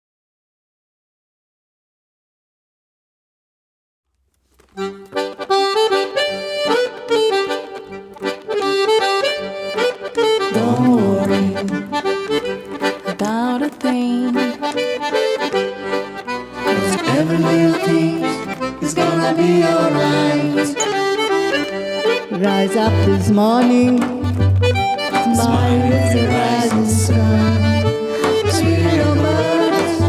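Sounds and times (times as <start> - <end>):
accordion playing: 4.6 - 30.0.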